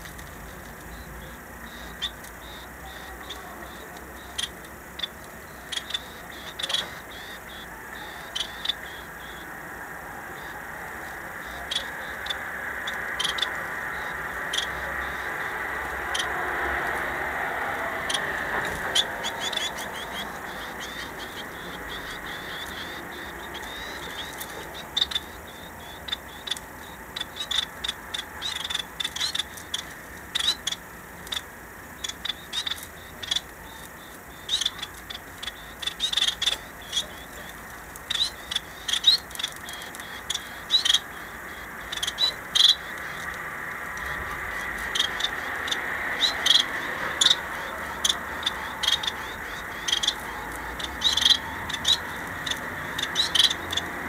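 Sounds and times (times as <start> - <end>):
finches chirping: 0.0 - 54.0
rushing background noise: 0.0 - 54.0.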